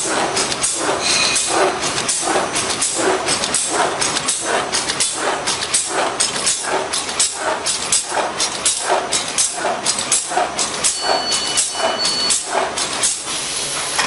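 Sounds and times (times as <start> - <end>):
bag cutting machine clacking: 0.0 - 14.0.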